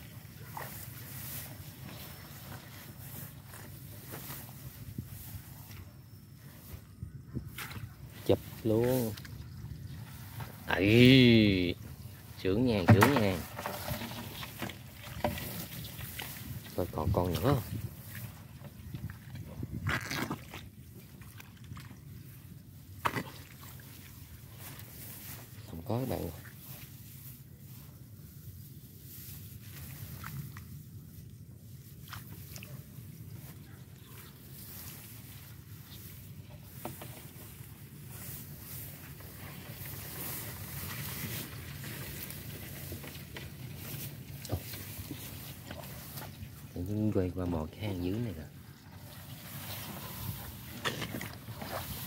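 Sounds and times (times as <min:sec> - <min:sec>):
wet mud squelching: 0:00.0 - 0:05.8, 0:07.4 - 0:52.0
rustling rice plants: 0:00.0 - 0:52.0.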